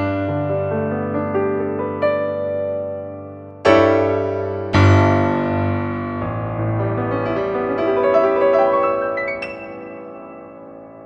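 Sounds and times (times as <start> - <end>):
piano playing slow chords: 0.0 - 11.0.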